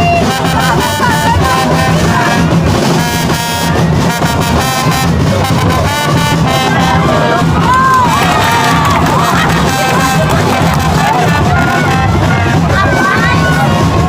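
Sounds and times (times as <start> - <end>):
loud brass music: 0.0 - 14.0
voices: 0.0 - 14.0.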